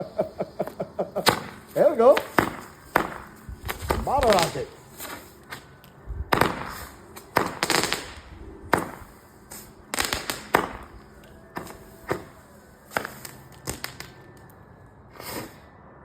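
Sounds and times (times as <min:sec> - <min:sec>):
firework pops and cracks: 0:00.1 - 0:14.6.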